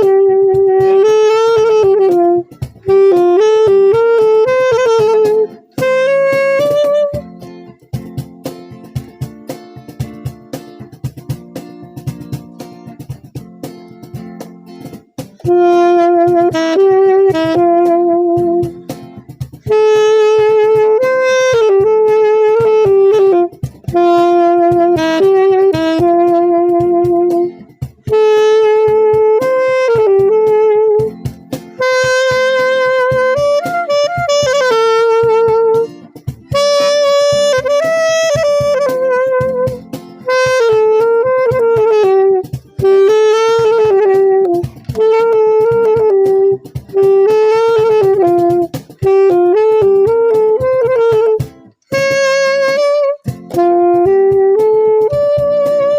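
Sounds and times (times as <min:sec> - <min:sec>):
light guitar accompaniment: 0:00.0 - 0:55.9
saxophone melody: 0:00.0 - 0:55.9.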